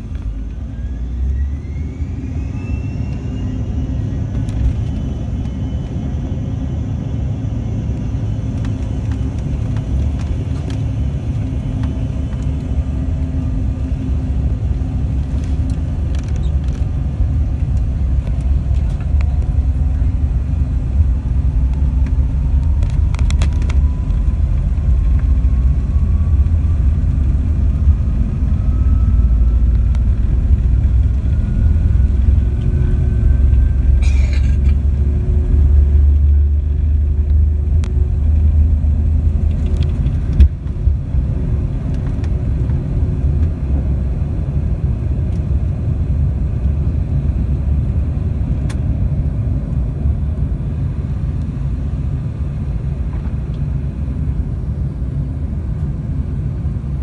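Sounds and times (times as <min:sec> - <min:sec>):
faint rising whine: 0:00.0 - 0:57.0
jet engines rumbling: 0:00.0 - 0:57.0.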